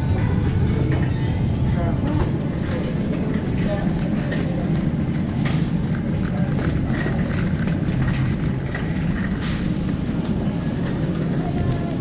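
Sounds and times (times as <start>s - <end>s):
shopping cart wheels rumbling: 0.0s - 12.0s.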